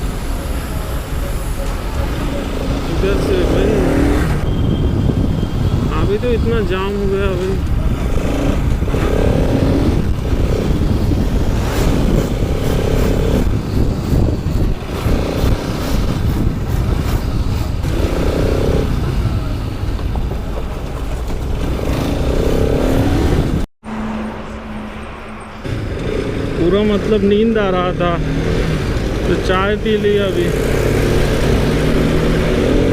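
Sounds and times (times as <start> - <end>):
wind rumble: 0.0 - 29.9
motorcycle engine: 0.0 - 32.9
passing traffic sounds: 0.0 - 32.9.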